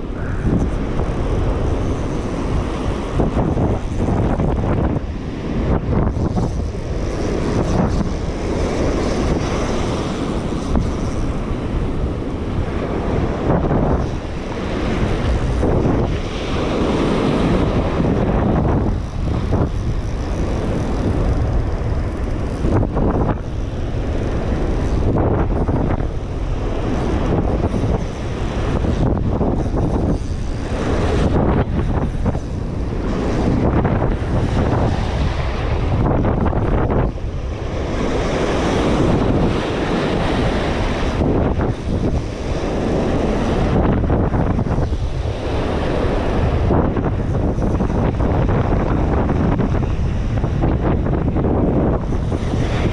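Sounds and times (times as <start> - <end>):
gusty wind buffeting microphone: 0.0 - 52.9
surf washing: 0.0 - 52.9.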